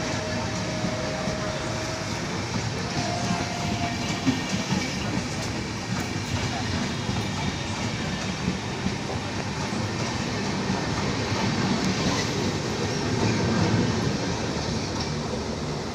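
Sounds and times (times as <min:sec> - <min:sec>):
train wheels rumbling on track: 0:00.0 - 0:15.9.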